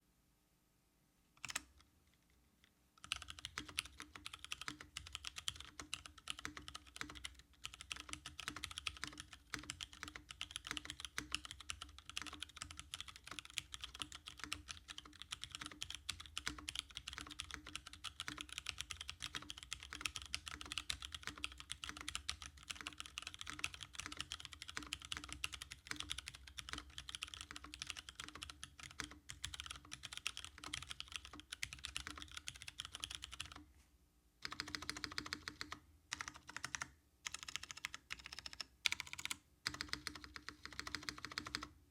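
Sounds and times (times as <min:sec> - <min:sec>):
mechanical keyboard typing: 0:01.4 - 0:01.8, 0:03.0 - 0:33.6, 0:34.4 - 0:41.7.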